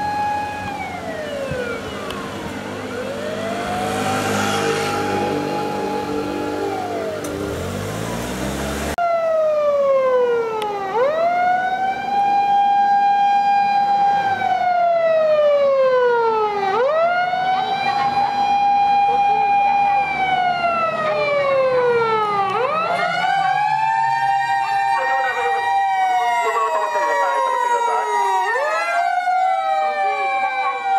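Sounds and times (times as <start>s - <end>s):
second siren steady pitch: 0.0s - 8.2s, 9.0s - 30.9s
fire engine siren wailing: 0.0s - 30.9s.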